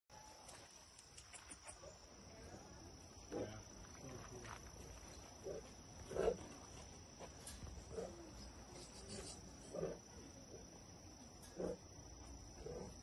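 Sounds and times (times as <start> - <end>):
high-pitched insect trill: 0.2 - 13.0.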